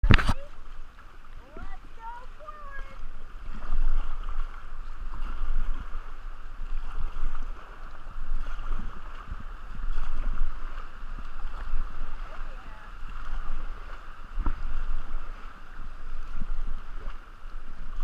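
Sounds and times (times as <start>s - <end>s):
wind buffeting microphone: 1.2s - 18.0s.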